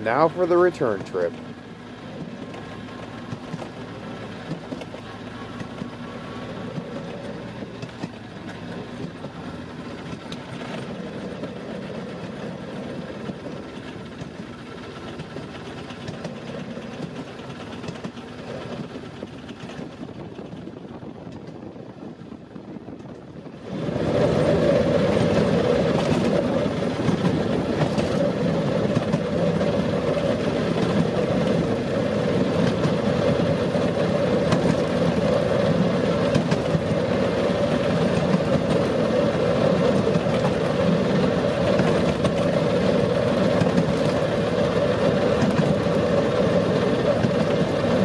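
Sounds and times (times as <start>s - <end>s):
track car motor running: 0.0s - 48.0s
wheels clicking on rails: 0.0s - 48.0s.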